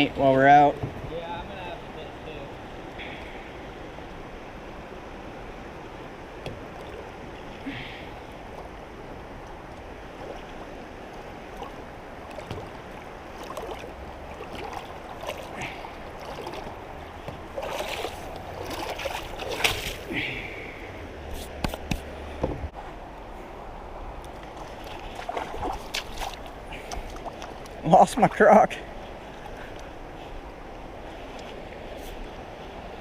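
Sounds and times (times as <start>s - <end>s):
kayaks splashing and knocking: 0.0s - 23.2s, 24.0s - 33.0s
creek water running: 0.0s - 33.0s.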